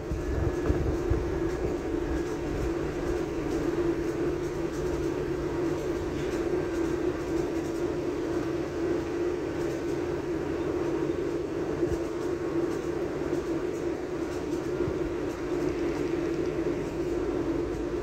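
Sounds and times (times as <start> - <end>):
train drone: 0.0 - 18.0
train rolling noise: 0.0 - 18.0.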